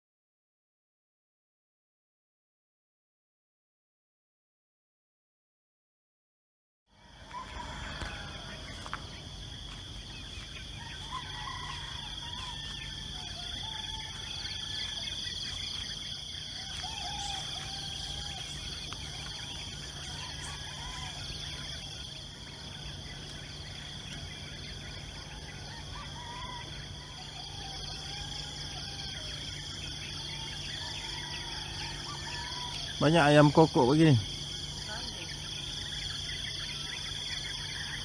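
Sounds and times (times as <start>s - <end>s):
insects droning: 6.9s - 38.0s
roosters crowing: 6.9s - 38.0s.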